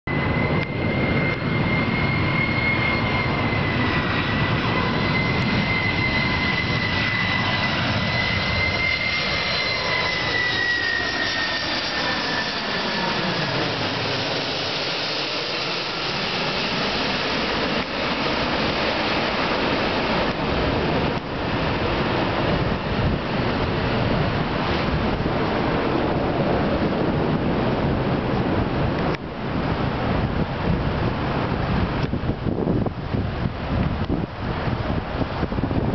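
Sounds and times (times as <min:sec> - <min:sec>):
jet engines roaring overhead: 0:00.1 - 0:35.9.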